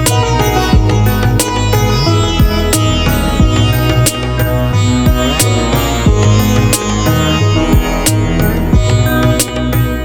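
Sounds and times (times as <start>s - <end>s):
instrumental music with percussion: 0.0s - 10.0s.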